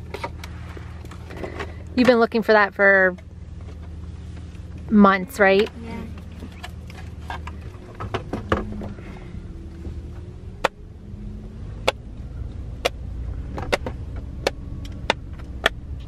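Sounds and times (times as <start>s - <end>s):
low rumble inside a car: 0.0s - 16.0s.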